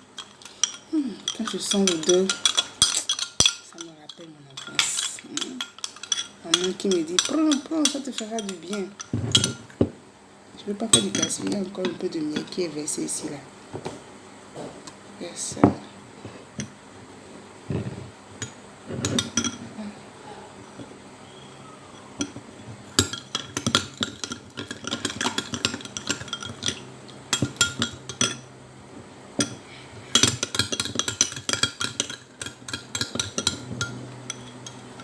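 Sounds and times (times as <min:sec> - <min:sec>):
spoon stirring and clinking in bowl: 0:00.0 - 0:09.9, 0:10.7 - 0:13.3, 0:17.7 - 0:19.8, 0:20.6 - 0:28.5, 0:29.4 - 0:35.0.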